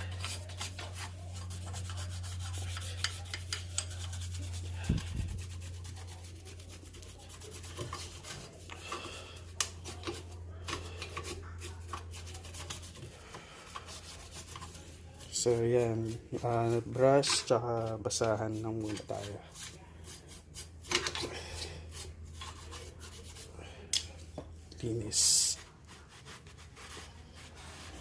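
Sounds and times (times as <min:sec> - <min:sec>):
toothbrush scraping brake parts: 0:00.0 - 0:24.1
steady low hum: 0:00.0 - 0:28.0.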